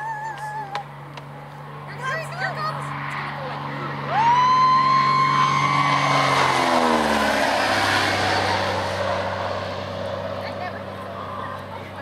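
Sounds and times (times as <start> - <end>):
propeller plane passing overhead: 0.0 - 12.0.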